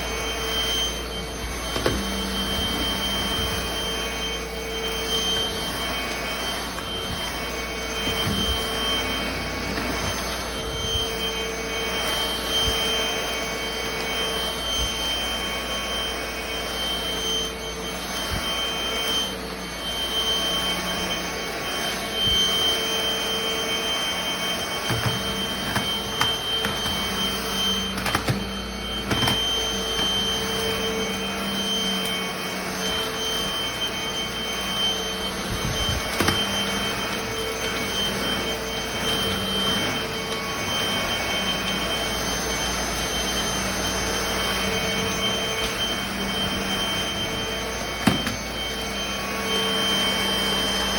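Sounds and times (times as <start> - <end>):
stick vacuum running: 0.0 - 50.9.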